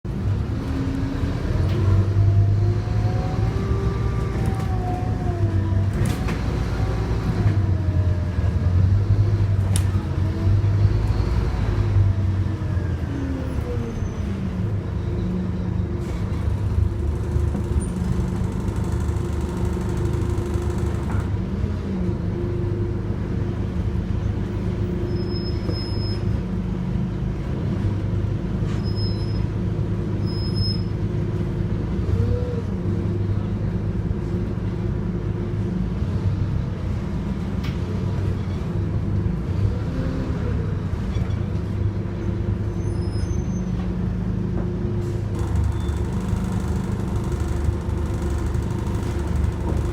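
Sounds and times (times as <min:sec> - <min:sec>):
bus engine and transmission whine: 0:00.1 - 0:49.9.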